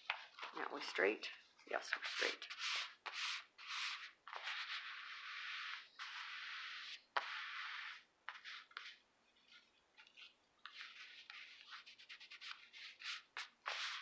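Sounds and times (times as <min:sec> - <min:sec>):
hand rubbing paper: 0:01.9 - 0:14.0.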